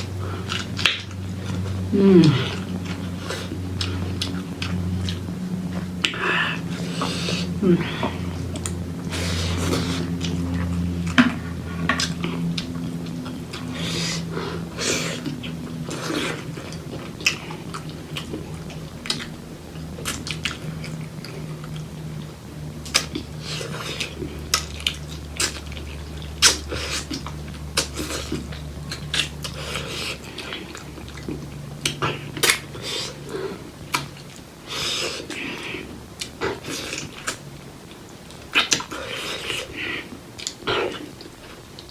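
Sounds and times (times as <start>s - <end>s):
low hum: 0.0s - 41.9s
wet chewing and smacking: 0.0s - 41.9s.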